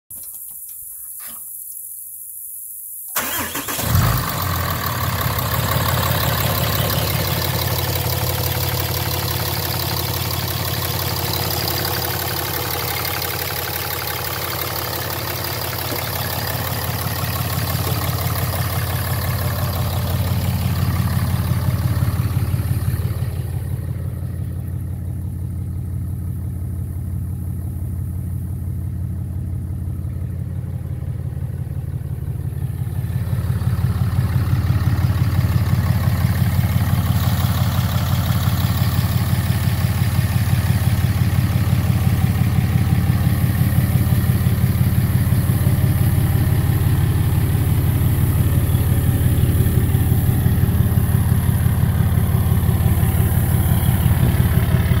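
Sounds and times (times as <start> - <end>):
diesel engine starting: 3.1 - 55.0
diesel engine idling: 3.2 - 55.0.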